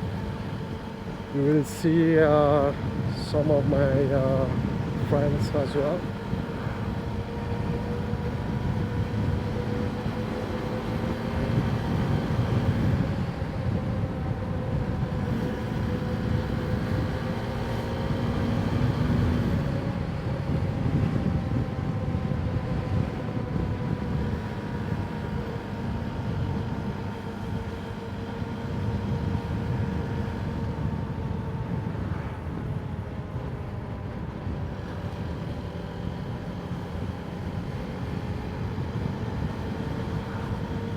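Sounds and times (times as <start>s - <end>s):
road and wind rumble: 0.0s - 40.9s.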